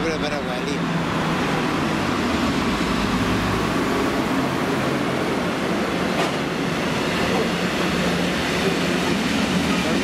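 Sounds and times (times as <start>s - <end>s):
diesel locomotive engine passing: 0.0s - 10.0s.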